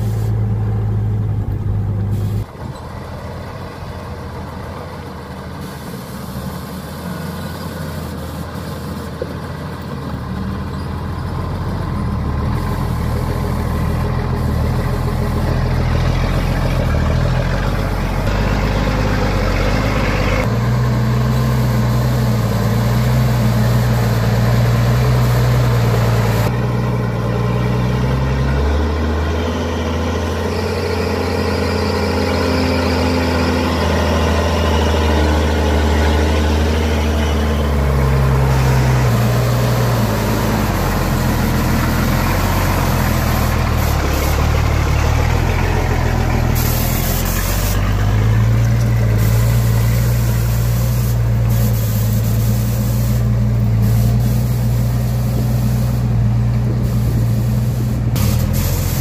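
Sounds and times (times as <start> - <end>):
heavy truck engine running: 0.0 - 59.0.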